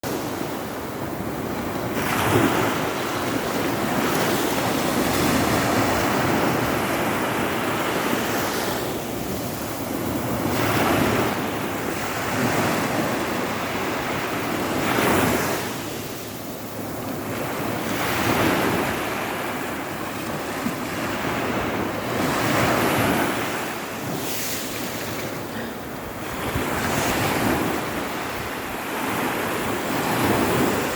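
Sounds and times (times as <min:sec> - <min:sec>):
sea waves breaking on a beach: 0:00.0 - 0:30.9.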